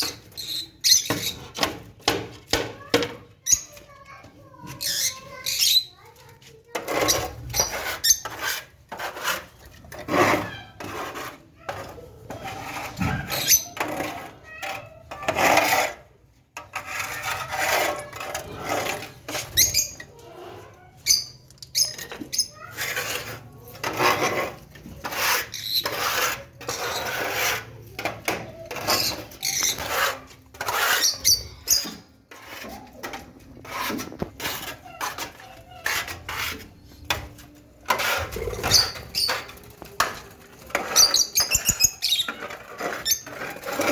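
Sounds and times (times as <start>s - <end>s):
birds chattering: 0.0s - 1.6s, 3.2s - 8.5s, 12.2s - 15.3s, 17.2s - 43.9s.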